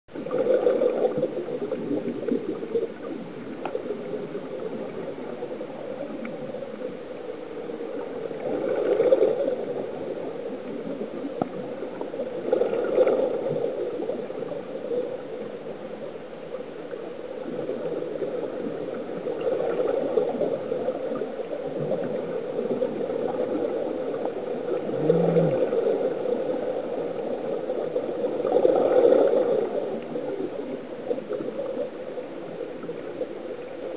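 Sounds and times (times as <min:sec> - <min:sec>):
underwater bubbling and gurgling: 0:00.1 - 0:33.9.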